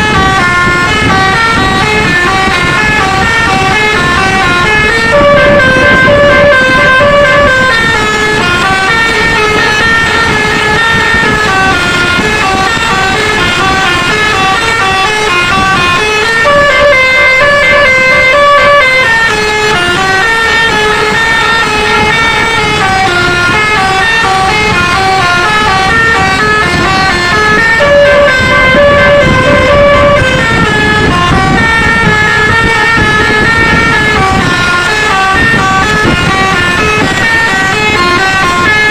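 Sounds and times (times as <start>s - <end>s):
air horn melody: 0.0s - 38.9s.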